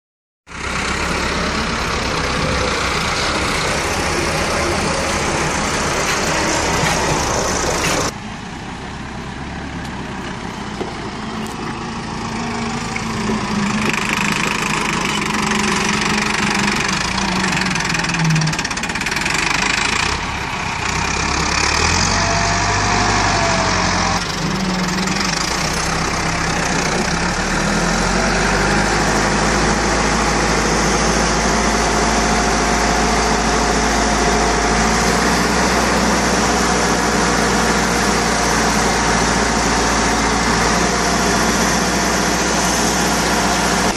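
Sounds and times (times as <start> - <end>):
tractor diesel engine running: 0.5 - 43.9.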